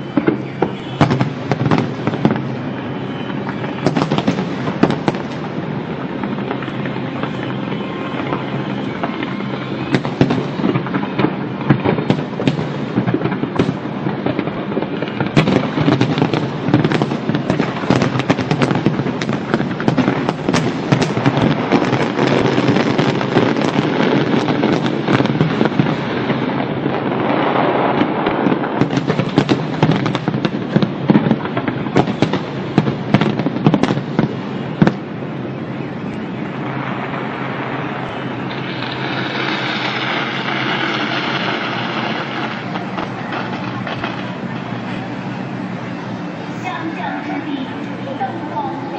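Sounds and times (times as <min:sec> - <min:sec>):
fireworks crackling: 0:00.0 - 0:48.9
fireworks sharp bangs: 0:00.0 - 0:48.9.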